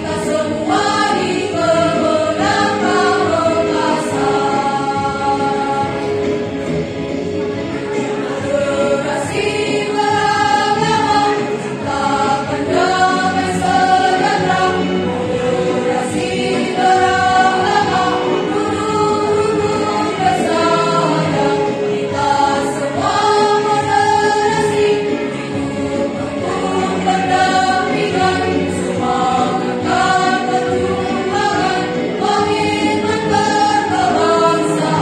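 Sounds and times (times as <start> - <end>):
women's choir singing: 0.0 - 7.0, 7.6 - 35.0.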